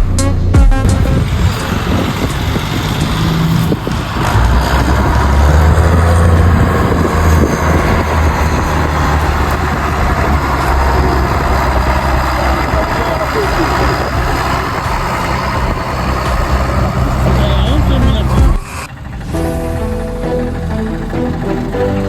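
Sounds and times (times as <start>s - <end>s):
diesel farm machinery humming: 0.0s - 22.0s.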